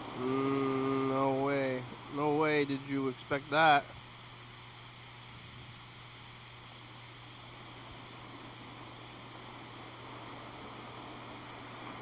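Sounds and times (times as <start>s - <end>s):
hiss and static: 0.0s - 12.0s.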